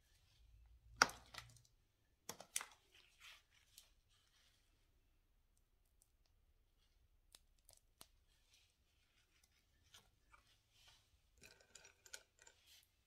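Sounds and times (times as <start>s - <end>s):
soft rustles of handling: 2.4s - 13.0s.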